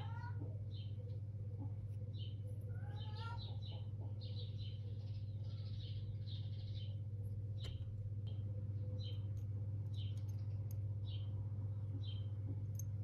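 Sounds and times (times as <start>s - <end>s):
low electrical hum: 0.0s - 13.0s
small birds chirping: 0.0s - 13.0s.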